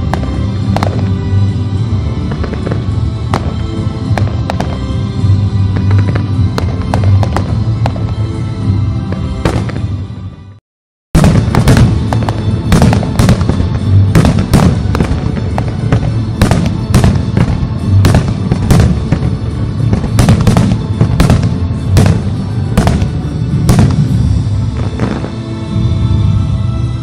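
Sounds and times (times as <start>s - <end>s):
fireworks bursting with sharp bangs: 0.0s - 1.6s, 2.2s - 8.4s, 9.1s - 10.0s, 11.2s - 25.7s
loud music: 0.0s - 10.6s, 11.2s - 27.0s.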